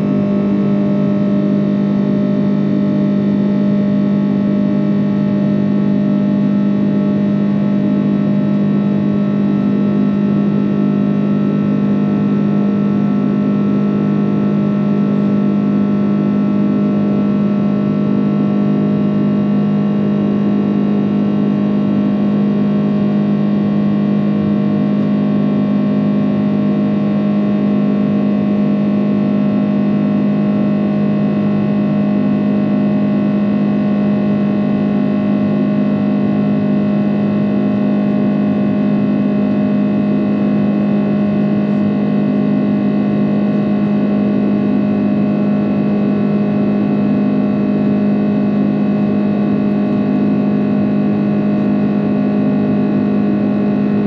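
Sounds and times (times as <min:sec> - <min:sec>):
jet engine drone in cabin: 0:00.0 - 0:54.0.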